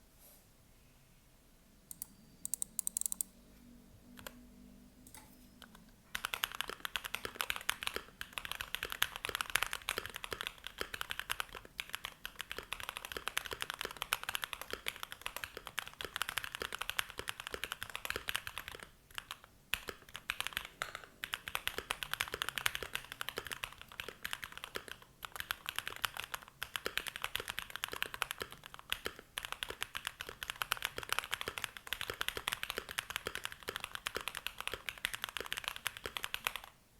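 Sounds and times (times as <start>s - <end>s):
mechanical keyboard typing: 1.9s - 3.3s, 5.0s - 36.8s.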